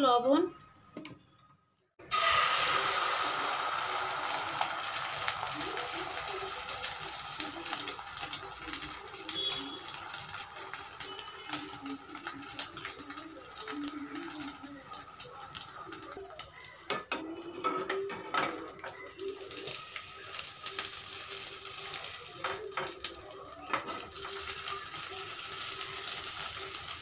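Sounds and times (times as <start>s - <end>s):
egg sizzling in hot oil: 2.1s - 16.7s, 19.2s - 27.0s.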